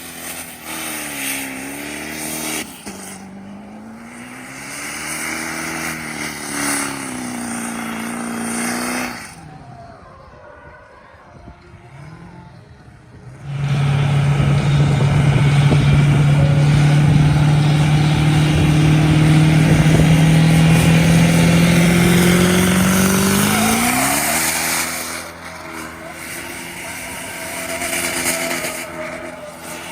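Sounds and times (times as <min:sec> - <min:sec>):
tires spinning hiss: 0:00.0 - 0:10.2, 0:13.1 - 0:29.9
engine revving high: 0:00.0 - 0:10.3, 0:11.4 - 0:29.9.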